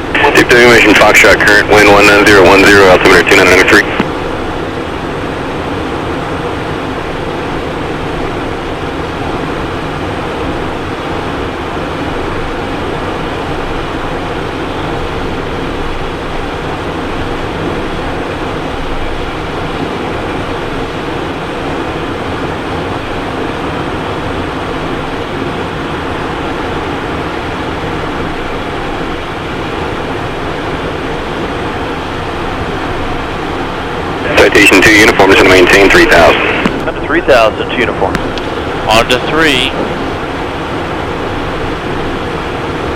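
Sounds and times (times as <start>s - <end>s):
jet cockpit air and engine noise: 0.0s - 42.9s.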